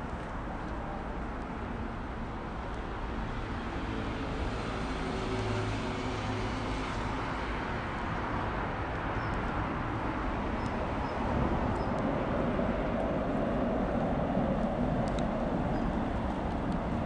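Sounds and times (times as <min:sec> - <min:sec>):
city traffic noise: 0:00.0 - 0:17.0
low engine hum: 0:00.0 - 0:17.0.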